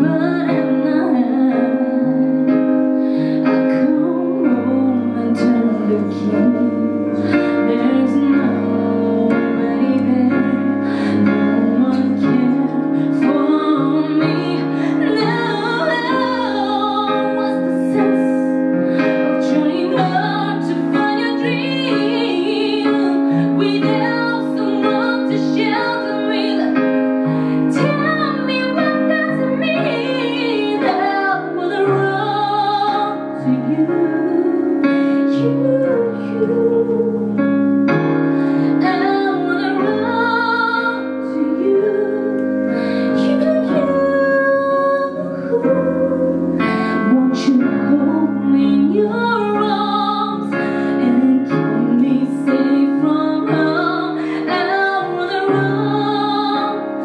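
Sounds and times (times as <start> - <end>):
electric keyboard chords: 0.0 - 57.0
woman singing a slow ballad: 0.0 - 57.0.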